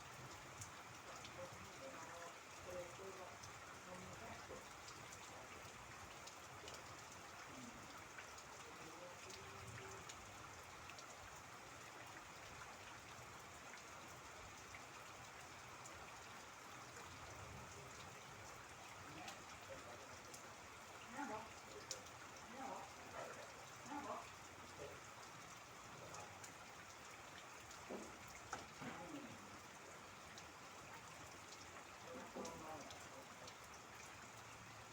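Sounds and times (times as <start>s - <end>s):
faint steady rainfall: 0.0s - 34.9s.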